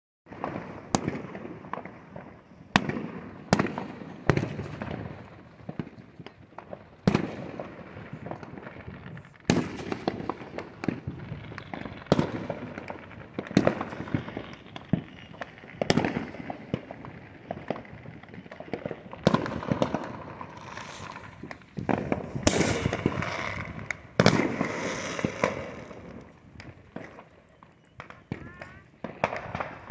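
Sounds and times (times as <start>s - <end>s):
distant fireworks bangs: 0.3s - 29.9s
fireworks crackling: 0.3s - 29.9s.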